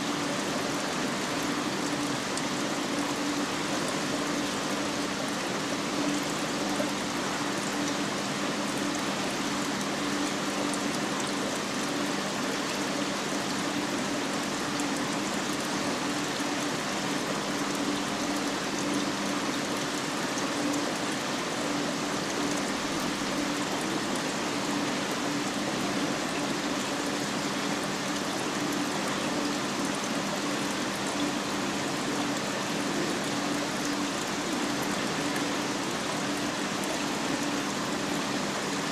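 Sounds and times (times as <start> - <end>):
low hum of circulation pumps: 0.0 - 38.9
rushing water: 0.0 - 38.9.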